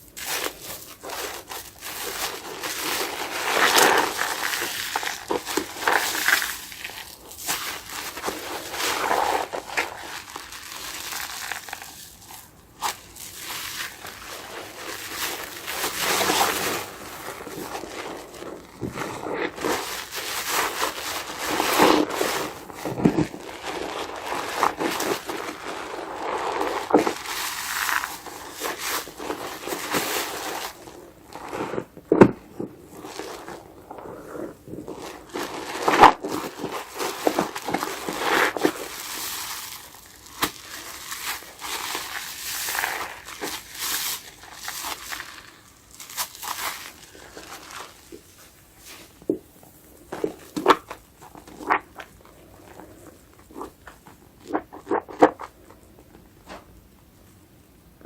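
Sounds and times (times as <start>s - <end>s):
soapy sponge squeezed crackling: 0.0s - 55.9s.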